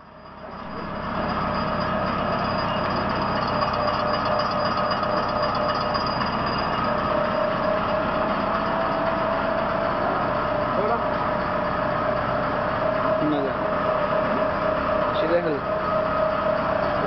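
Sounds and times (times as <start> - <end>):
meat grinder motor drone: 0.0 - 17.0
steady whine: 0.0 - 17.0.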